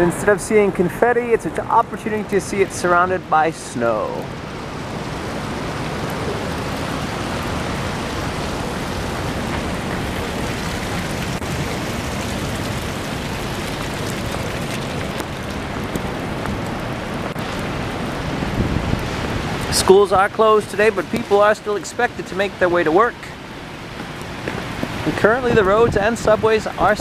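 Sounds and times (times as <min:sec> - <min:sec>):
traffic on slushy roads: 0:00.0 - 0:27.0.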